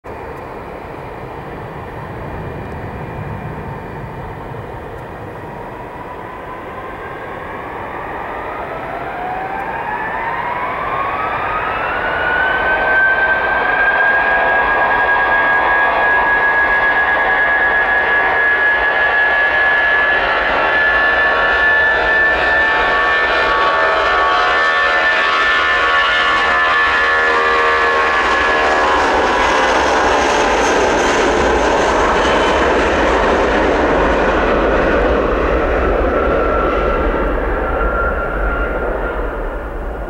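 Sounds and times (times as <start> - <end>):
jet engines spooling up: 0.1 - 40.0
rising engine whine: 0.1 - 40.0.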